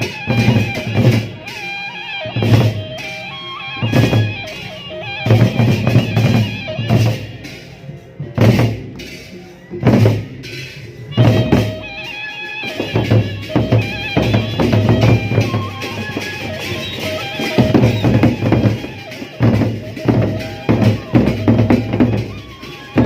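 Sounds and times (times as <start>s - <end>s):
bamboo flute melody: 0.0s - 23.0s
heavy drum beats: 0.0s - 23.0s.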